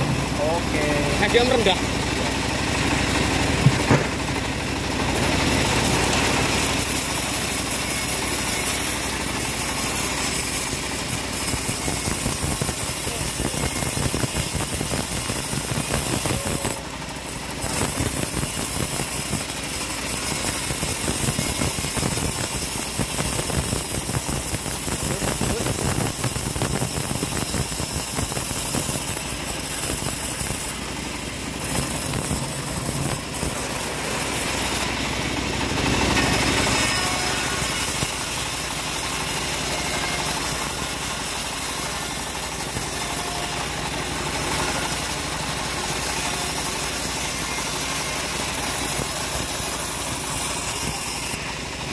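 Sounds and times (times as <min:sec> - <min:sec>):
bandsaw blade sawing wood: 0:00.0 - 0:51.9.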